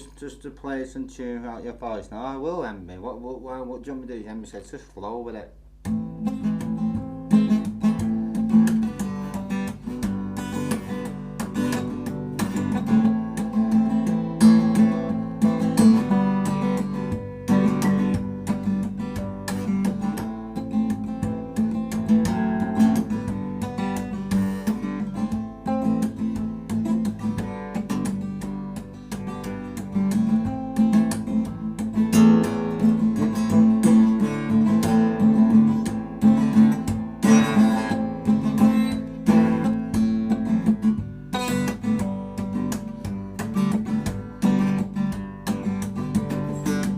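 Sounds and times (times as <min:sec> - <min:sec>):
acoustic guitar strumming chords: 0:05.3 - 0:46.9.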